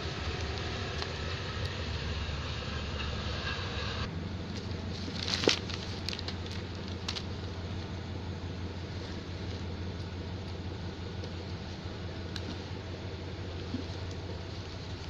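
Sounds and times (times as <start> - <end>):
steady hum: 0.0 - 15.0
train pulling away rumble: 0.0 - 15.0.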